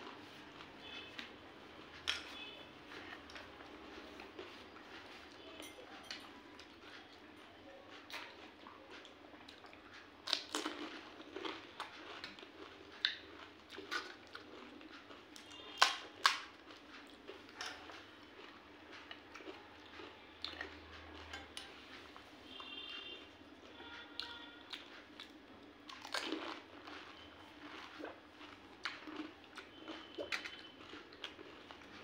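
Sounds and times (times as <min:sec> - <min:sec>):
crunchy food being chewed: 0:00.0 - 0:32.0.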